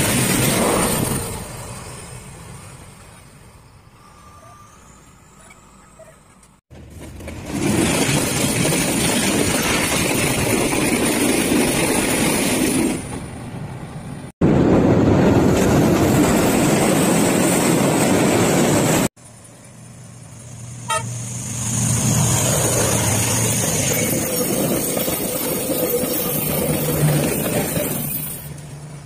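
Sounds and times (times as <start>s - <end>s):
train wheels rumbling on rails: 0.0s - 3.5s, 6.3s - 29.0s
diesel locomotive hum: 0.0s - 29.0s.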